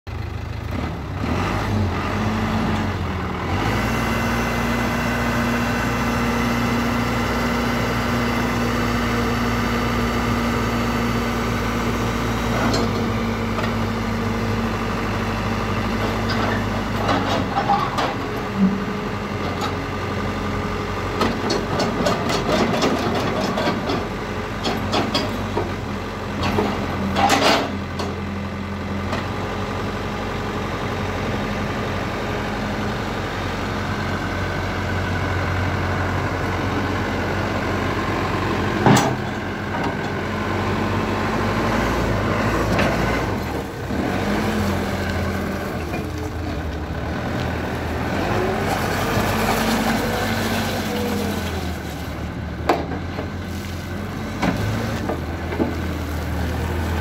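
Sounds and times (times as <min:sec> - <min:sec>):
diesel engine running: 0:00.1 - 0:57.0.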